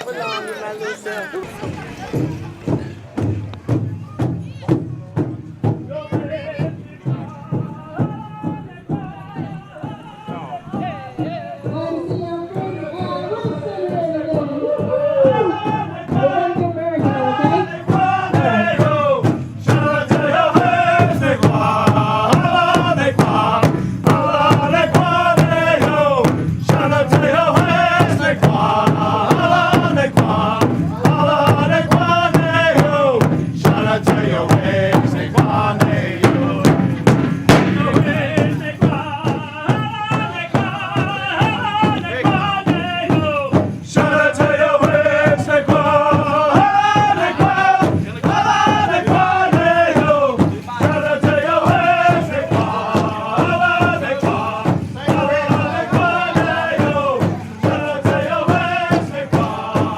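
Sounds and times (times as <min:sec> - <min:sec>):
steady drumbeat: 0:01.4 - 0:59.9
men chanting together: 0:05.7 - 0:59.9.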